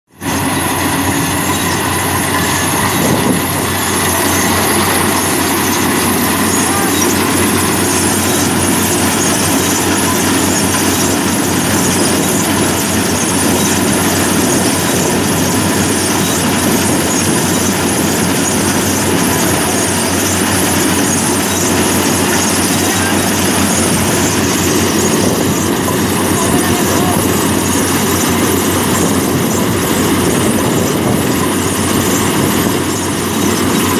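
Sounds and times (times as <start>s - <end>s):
combine harvester engine running: 0.1s - 33.9s.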